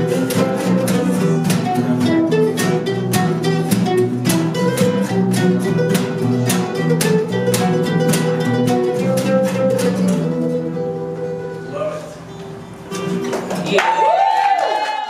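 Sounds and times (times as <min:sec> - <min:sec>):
acoustic bass guitar: 0:00.0 - 0:13.8
acoustic guitar strumming: 0:00.0 - 0:13.8.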